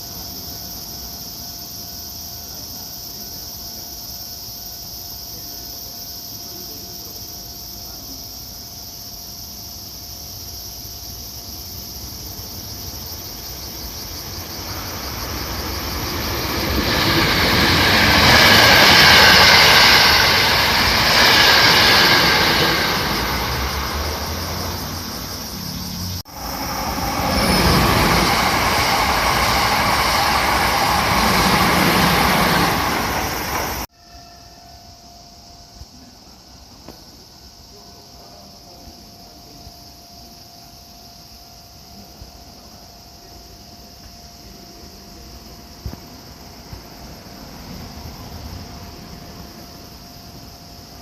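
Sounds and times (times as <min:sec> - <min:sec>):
train passing: 0:02.0 - 0:51.0.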